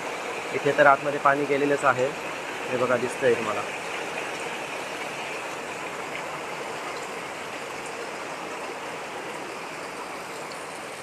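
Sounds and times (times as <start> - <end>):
heavy rain and running floodwater: 0.0 - 11.0.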